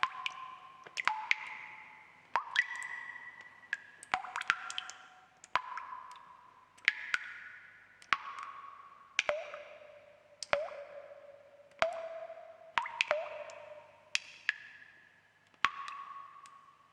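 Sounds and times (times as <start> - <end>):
water drops plinking into water: 0.0 - 16.8.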